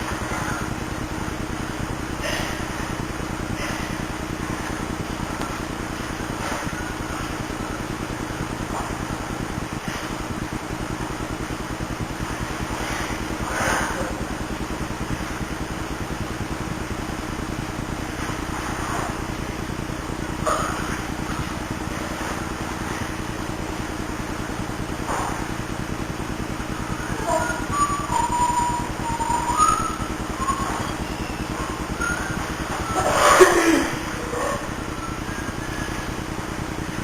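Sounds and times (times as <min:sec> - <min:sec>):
engine-like drone: 0:00.0 - 0:37.0.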